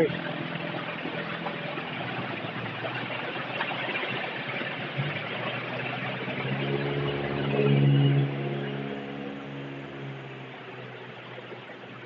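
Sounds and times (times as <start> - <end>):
vehicle engines humming: 0.0 - 12.0.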